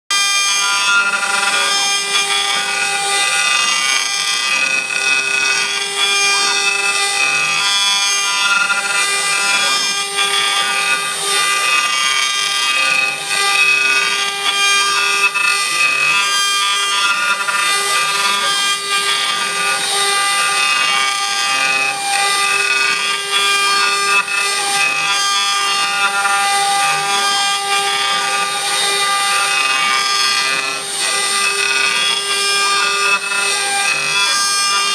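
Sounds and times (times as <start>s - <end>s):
engraving bit rasping cut: 0.1s - 34.9s
router spindle high whine: 0.1s - 34.9s.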